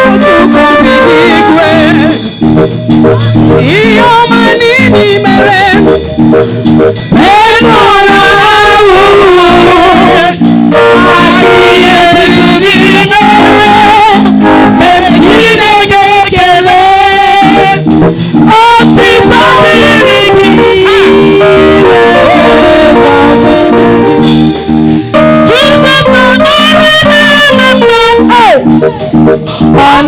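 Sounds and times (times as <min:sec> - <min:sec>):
person singing: 0:00.0 - 0:02.3, 0:03.0 - 0:17.9, 0:18.5 - 0:24.3, 0:25.1 - 0:30.0
guitar and band accompaniment: 0:00.0 - 0:30.0.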